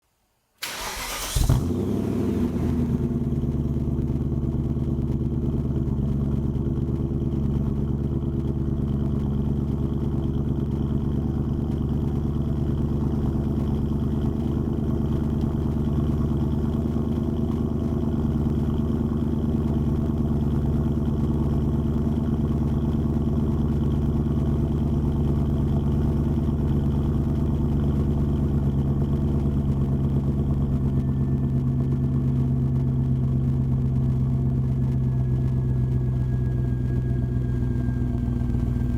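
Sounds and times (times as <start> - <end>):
car engine idling: 0.6 - 38.9.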